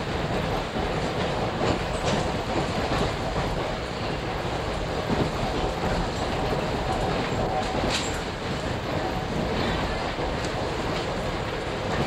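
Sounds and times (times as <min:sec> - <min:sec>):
train wheels rumbling on rails: 0:00.0 - 0:12.0
wheels clacking over rail joints: 0:00.0 - 0:12.0.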